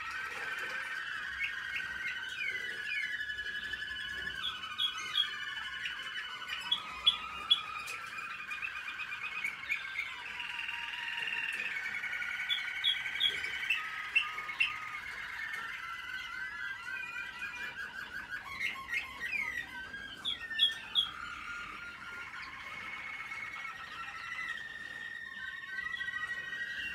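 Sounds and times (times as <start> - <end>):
canaries warbling: 0.0 - 26.9.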